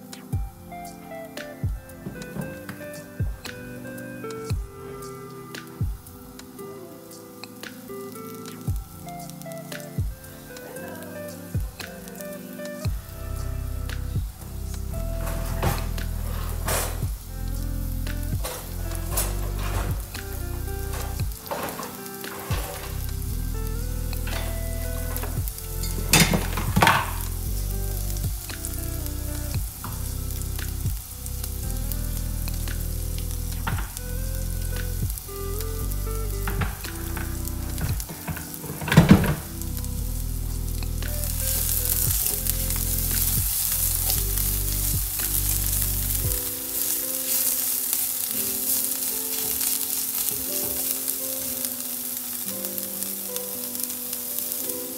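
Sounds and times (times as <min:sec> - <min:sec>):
soft background music: 0:00.0 - 0:54.9
onions sizzling in oil: 0:03.8 - 0:54.9.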